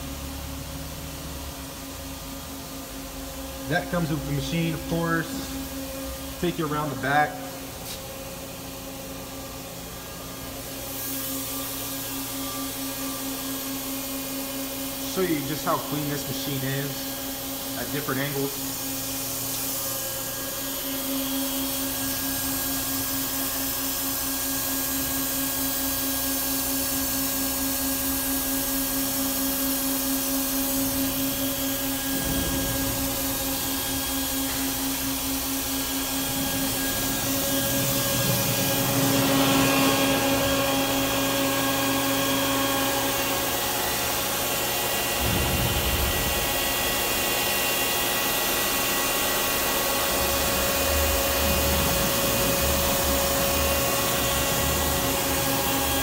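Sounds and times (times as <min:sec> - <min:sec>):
machine motor and fan hum: 0:00.0 - 0:56.0.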